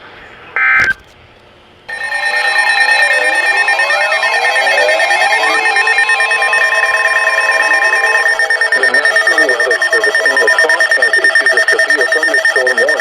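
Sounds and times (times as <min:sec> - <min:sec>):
fast-pulsing beep: 0:01.9 - 0:13.0
siren-like sweeping tones: 0:01.9 - 0:13.0
steady alert tone: 0:01.9 - 0:13.0.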